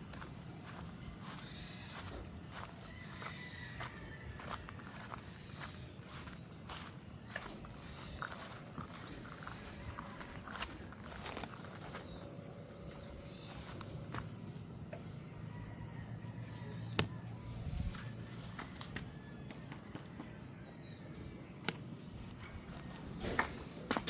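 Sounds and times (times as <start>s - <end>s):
insect chirring: 0.0s - 20.4s.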